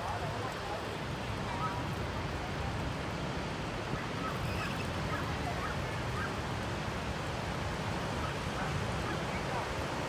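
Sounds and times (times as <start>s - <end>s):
surf wash: 0.0s - 10.0s.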